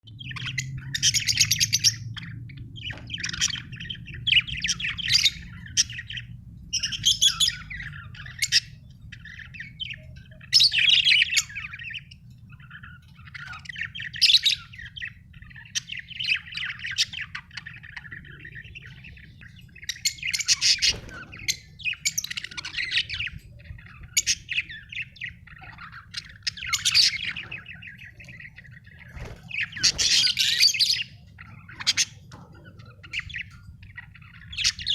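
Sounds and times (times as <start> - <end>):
faint low hum: 0.1 - 34.9
budgerigar chirping and warbling: 0.2 - 34.9.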